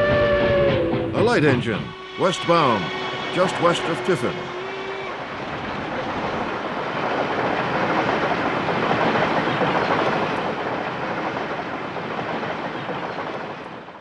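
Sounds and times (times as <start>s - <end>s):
steam train passing: 0.0s - 14.0s.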